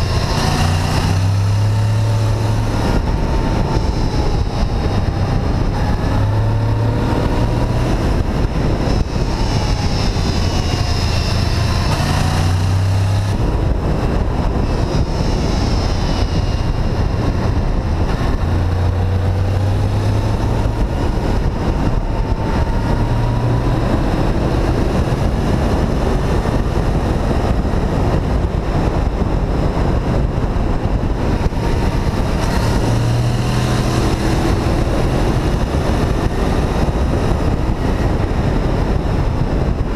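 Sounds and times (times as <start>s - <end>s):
motorcycle engine revving: 0.0s - 39.9s
steady rush of noise: 0.0s - 39.9s.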